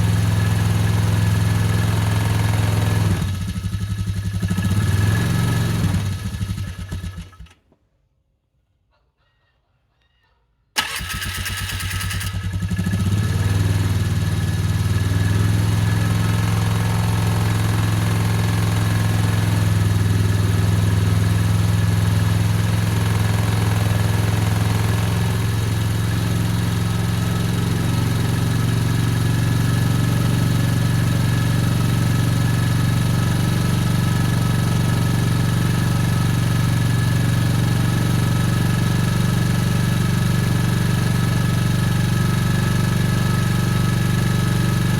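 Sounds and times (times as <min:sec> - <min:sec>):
engine idling: 0:00.0 - 0:04.8, 0:10.8 - 0:44.9.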